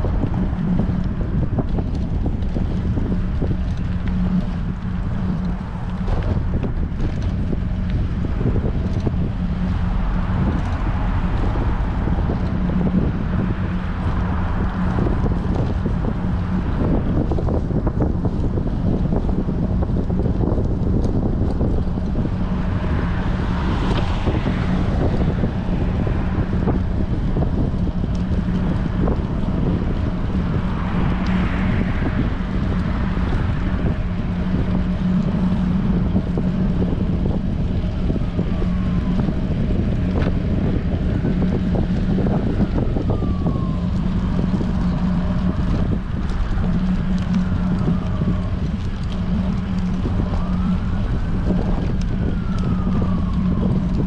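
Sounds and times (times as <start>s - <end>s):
faint siren wailing: 0.0s - 20.6s, 21.3s - 54.0s
low hum: 0.0s - 54.0s
wind buffeting microphone: 0.0s - 54.0s.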